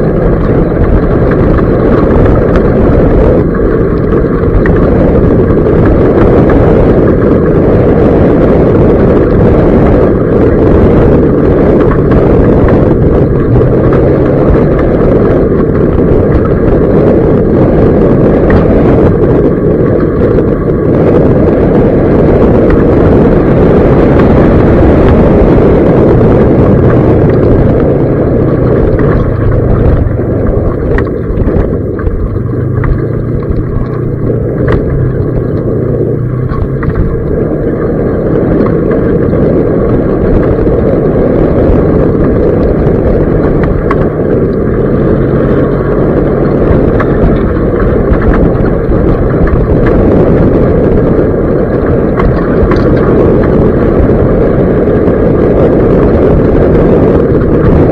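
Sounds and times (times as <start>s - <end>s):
tyres rumbling on dirt: 0.0s - 57.9s
vehicle engine hum: 0.0s - 57.9s
wind on microphone: 0.0s - 57.9s.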